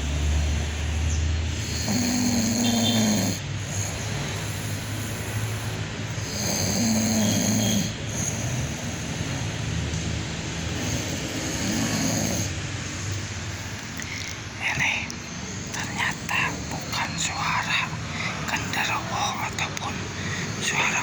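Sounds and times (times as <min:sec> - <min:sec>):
person snoring: 0:00.0 - 0:09.9, 0:10.6 - 0:12.6, 0:15.5 - 0:21.0.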